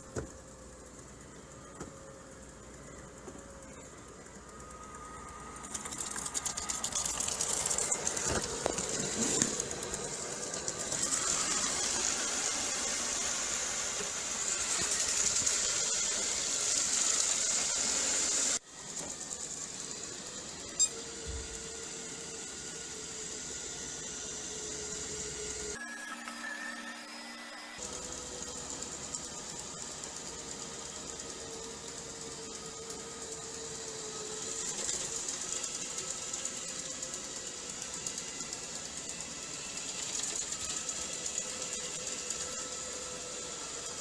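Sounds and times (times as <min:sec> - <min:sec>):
robot vacuum cleaner running: 0:00.0 - 0:44.0.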